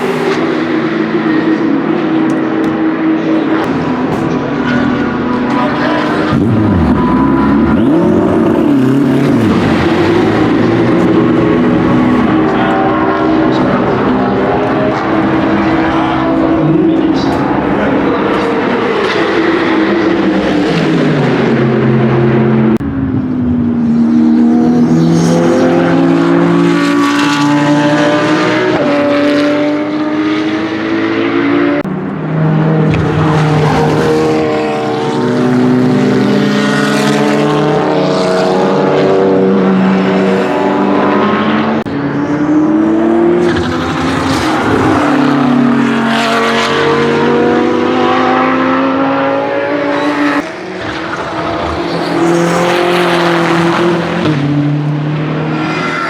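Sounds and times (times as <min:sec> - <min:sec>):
race car engine passing: 0:00.0 - 0:56.0.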